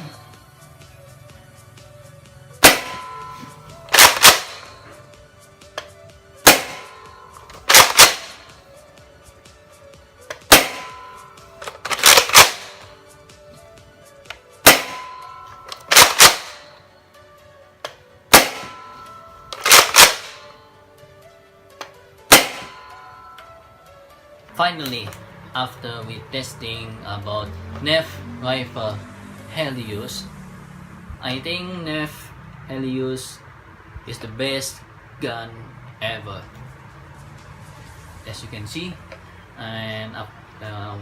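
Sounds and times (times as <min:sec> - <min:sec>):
faint background music: 0:00.0 - 0:41.0.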